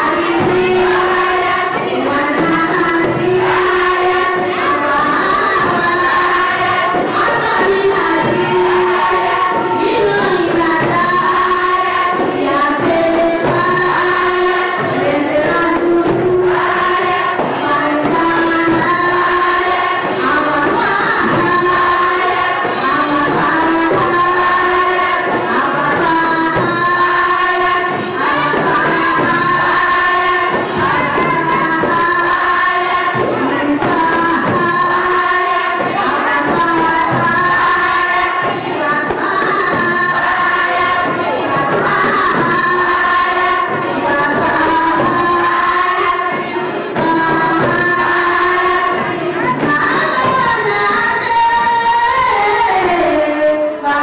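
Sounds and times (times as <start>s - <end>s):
frame drums: 0.0s - 53.9s
women's choir chanting in unison: 0.0s - 54.0s.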